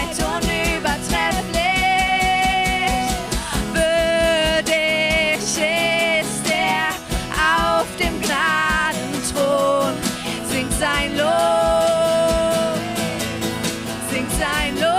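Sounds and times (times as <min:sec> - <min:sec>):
band playing worship song: 0:00.0 - 0:14.9.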